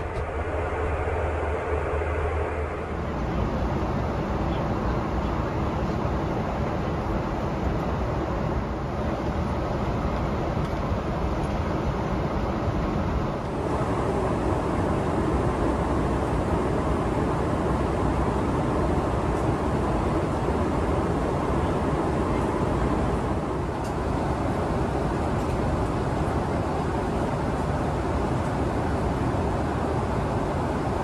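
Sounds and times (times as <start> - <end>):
airliner cabin roar: 0.0 - 31.0.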